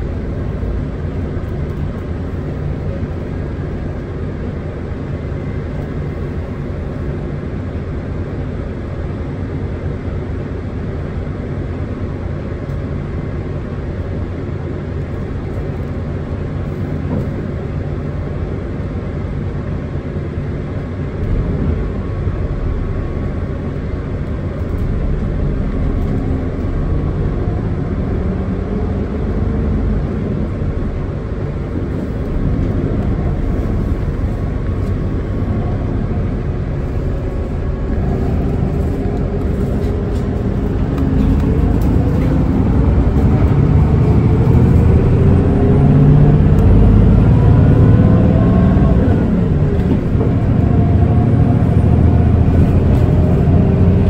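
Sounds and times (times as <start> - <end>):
bus drivetrain and road rumble: 0.0 - 54.0.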